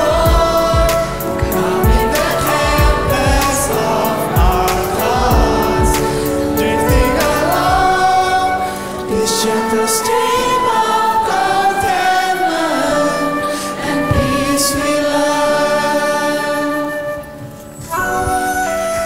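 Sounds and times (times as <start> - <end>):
mixed choir singing: 0.0 - 19.0
musical accompaniment: 0.0 - 19.0.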